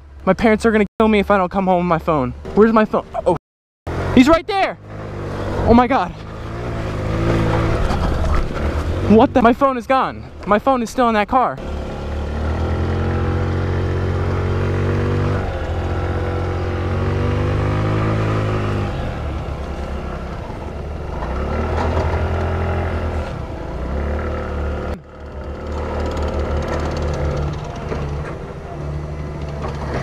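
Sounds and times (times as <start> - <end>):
motorbike engine revving: 3.9 - 9.7, 11.6 - 30.0.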